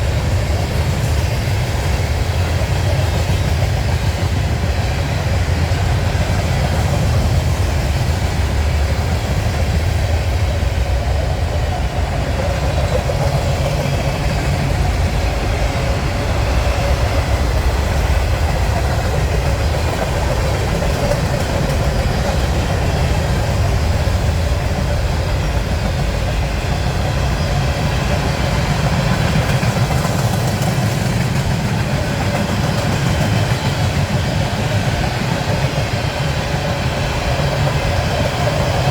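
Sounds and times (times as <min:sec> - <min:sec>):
freight train rolling past: 0:00.0 - 0:38.9.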